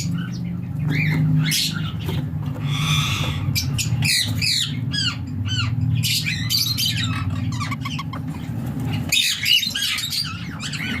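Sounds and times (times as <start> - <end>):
parakeets squawking: 0.0 - 11.0.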